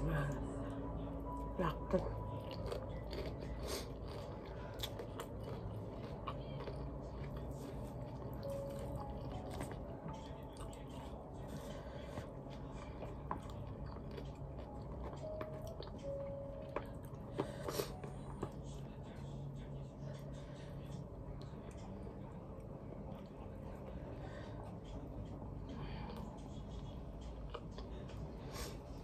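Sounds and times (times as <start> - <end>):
steady low hum: 0.0 - 29.0
person chewing food: 2.2 - 29.0.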